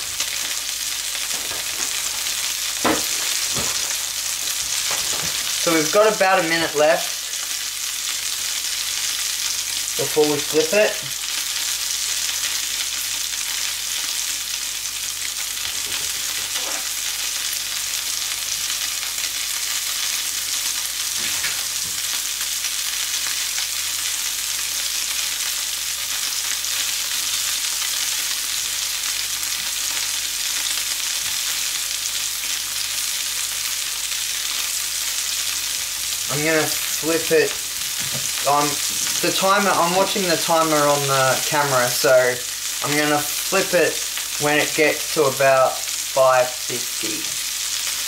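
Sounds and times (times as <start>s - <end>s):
burger patty sizzling in a pan: 0.0s - 48.0s.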